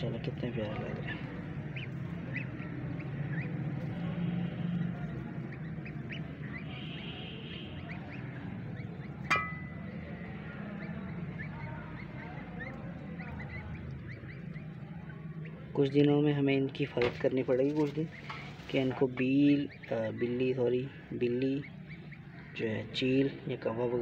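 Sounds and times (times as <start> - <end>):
low steady hum: 0.0 - 23.2
chicks peeping: 0.0 - 24.0.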